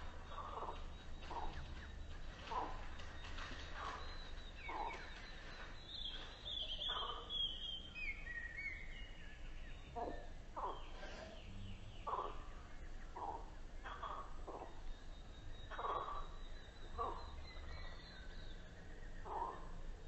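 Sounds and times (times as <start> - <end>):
frogs croaking: 0.0 - 7.6, 10.0 - 11.4, 12.0 - 20.0
low steady hum: 0.0 - 20.0.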